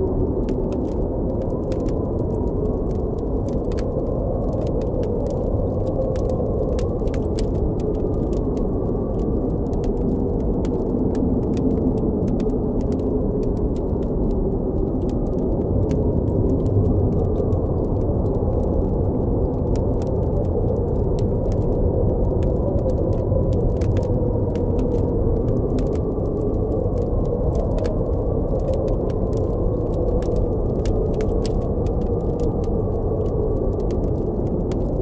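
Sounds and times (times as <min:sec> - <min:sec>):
blizzard wind howling: 0:00.0 - 0:35.0
campfire crackling: 0:00.0 - 0:35.0.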